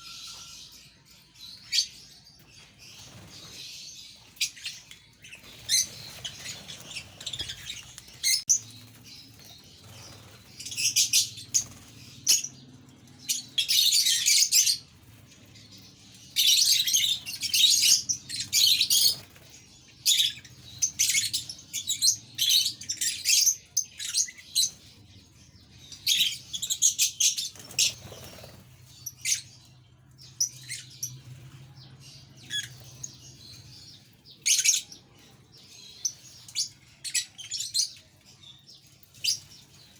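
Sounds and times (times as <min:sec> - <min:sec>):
parrots chattering and chirping: 0:00.0 - 0:39.9.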